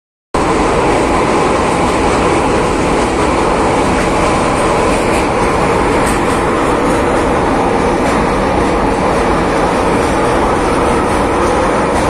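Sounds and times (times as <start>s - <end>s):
train rumbling over bridge: 0.4s - 12.0s.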